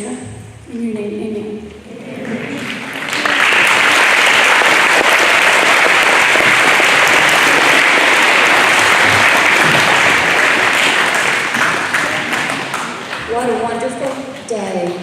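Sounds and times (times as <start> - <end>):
audience applauding: 2.2 - 14.5.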